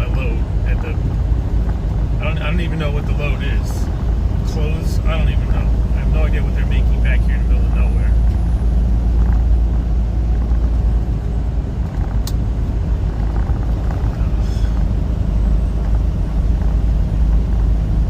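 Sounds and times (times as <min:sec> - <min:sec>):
diesel truck engine drone: 0:00.0 - 0:18.0
road noise: 0:00.0 - 0:18.0.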